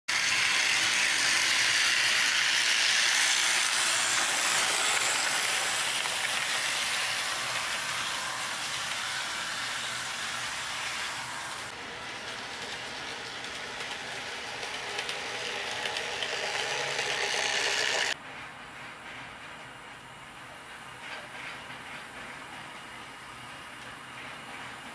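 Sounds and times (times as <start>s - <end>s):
model train hissing rush: 0.1s - 24.9s.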